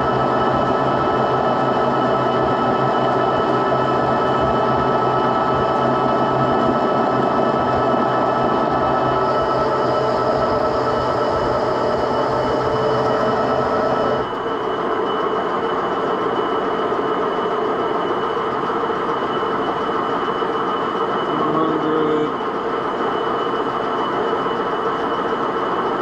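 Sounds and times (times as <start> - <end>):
machine tool cutting metal whine: 0.0 - 26.0.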